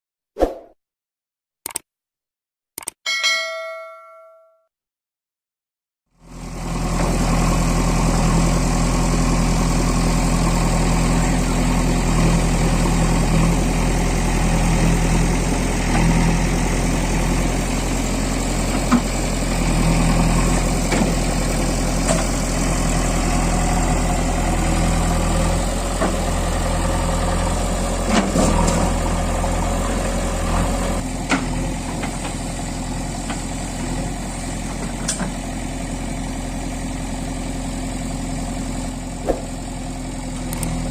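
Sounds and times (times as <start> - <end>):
diesel engine running: 6.1 - 40.9.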